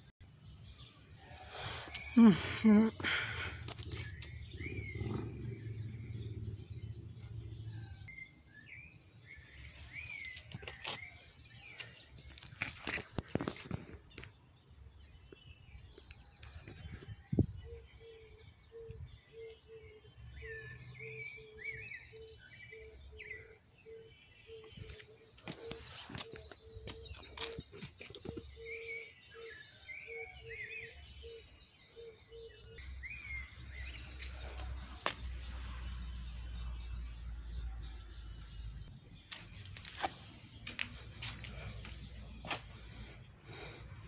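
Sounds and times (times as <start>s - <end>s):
small songbirds chirping: 0.0s - 44.0s.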